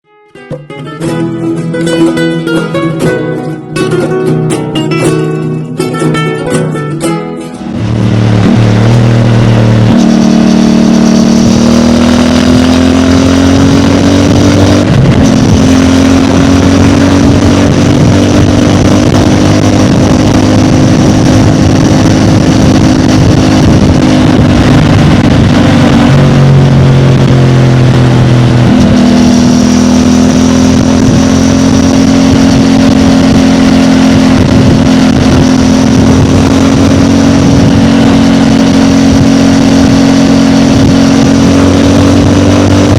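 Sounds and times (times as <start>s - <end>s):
motorcycle engine running: 0.6s - 42.9s.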